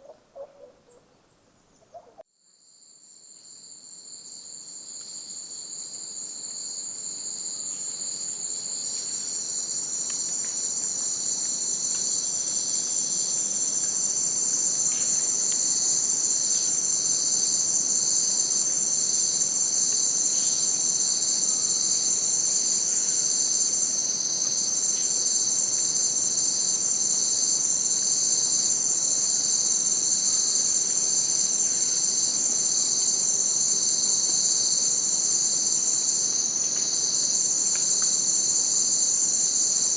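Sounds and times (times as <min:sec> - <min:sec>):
insects trilling: 0:01.7 - 0:39.9.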